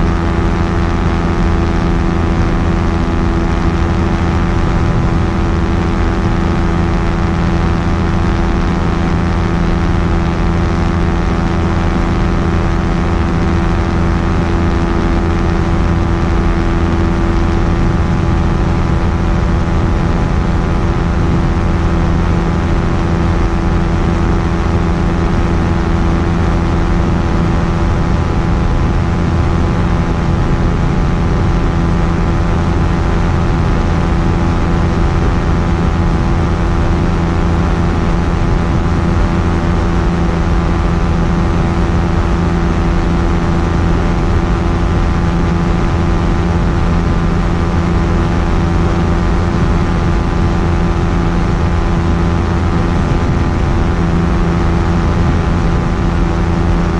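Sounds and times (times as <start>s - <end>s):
light aircraft engine and propeller: 0.0s - 56.9s.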